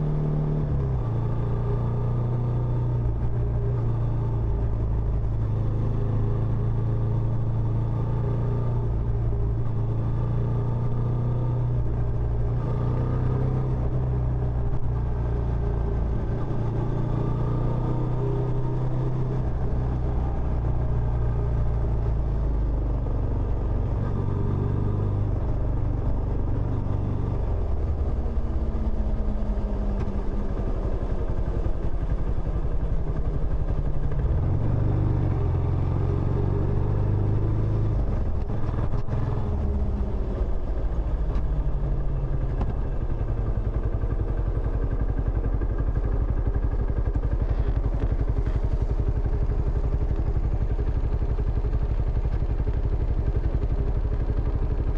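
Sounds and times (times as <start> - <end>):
single-cylinder motorcycle engine: 0.0 - 54.9.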